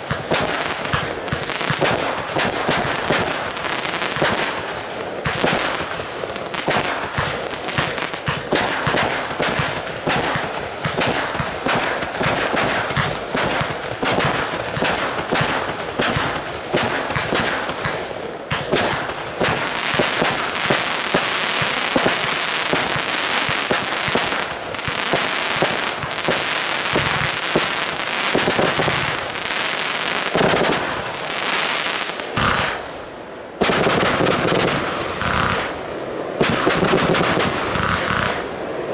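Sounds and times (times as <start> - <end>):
fireworks going off: 0.0 - 38.9.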